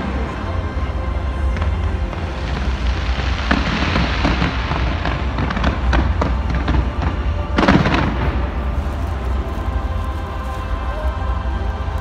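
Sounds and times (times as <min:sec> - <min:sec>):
fireworks bangs and crackles: 0:00.0 - 0:12.0
loud music: 0:00.0 - 0:12.0.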